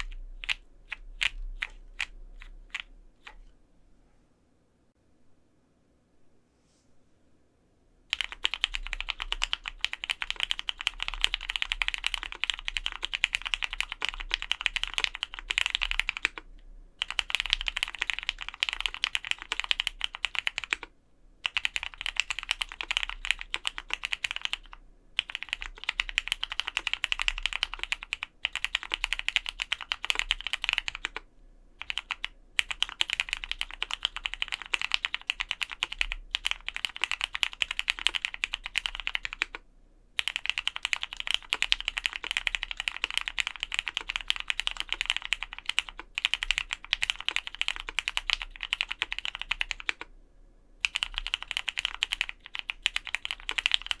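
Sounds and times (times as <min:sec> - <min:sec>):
typing on mechanical keyboard: 0:00.0 - 0:03.5, 0:08.1 - 0:39.6, 0:40.2 - 0:50.1, 0:50.8 - 0:54.0.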